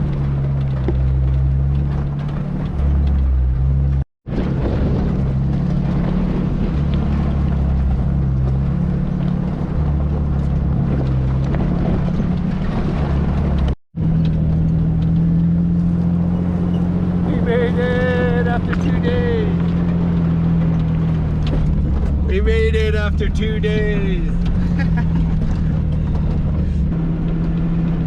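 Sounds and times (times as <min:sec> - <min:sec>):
rumbling road noise: 0:00.0 - 0:28.0
vehicle engine droning: 0:00.0 - 0:28.0.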